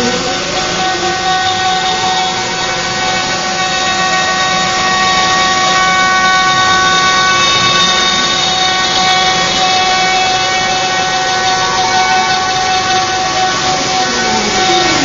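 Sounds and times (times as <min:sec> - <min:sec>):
router cutting wood: 0:00.0 - 0:15.0
router spindle whine: 0:00.0 - 0:15.0.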